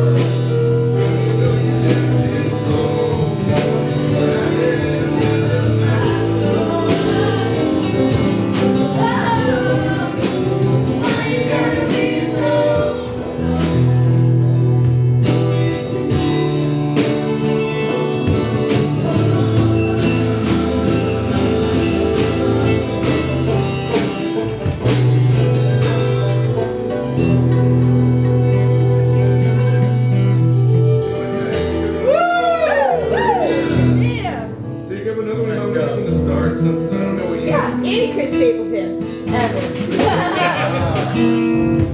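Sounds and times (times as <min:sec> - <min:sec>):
steady drum beat: 0:00.0 - 0:34.6, 0:37.5 - 0:41.9
band music: 0:00.0 - 0:41.9
held bass line: 0:00.0 - 0:41.9.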